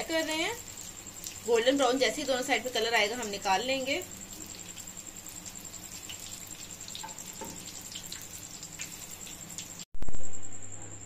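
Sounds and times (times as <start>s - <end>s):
oil sizzling in a frying pan: 0.0s - 9.9s.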